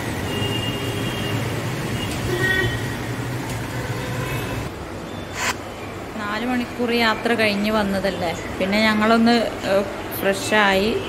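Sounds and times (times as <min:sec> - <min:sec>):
traffic engines humming: 0:00.0 - 0:11.0.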